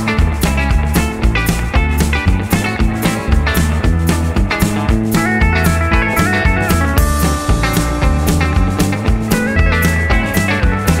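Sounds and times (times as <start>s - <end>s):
rock music with guitar: 0.0s - 11.0s
steady drum beat: 0.0s - 11.0s.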